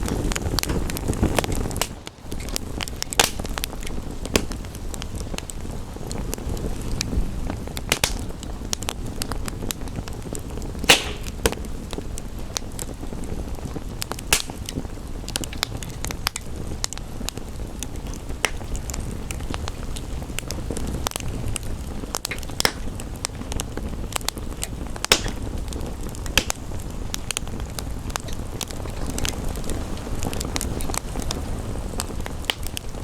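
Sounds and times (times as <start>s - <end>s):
rain: 0.0s - 33.0s
wood fire crackling and popping: 0.0s - 33.0s.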